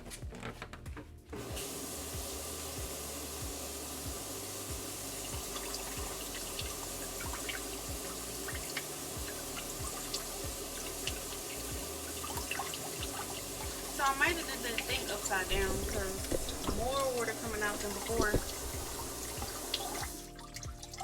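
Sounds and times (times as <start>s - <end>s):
tap water running into sink: 1.4s - 21.0s
water drips and splashes: 1.5s - 21.0s.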